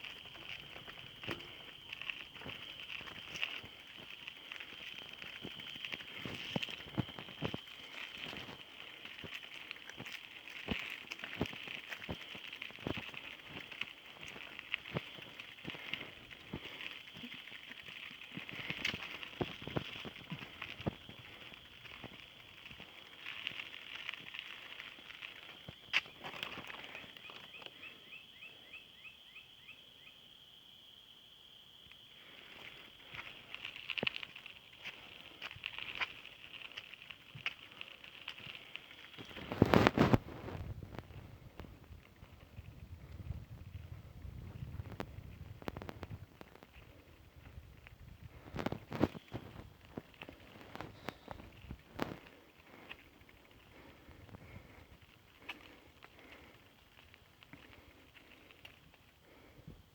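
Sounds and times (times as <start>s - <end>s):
bicycle rattling on rough road: 0.0s - 28.6s, 32.0s - 59.9s.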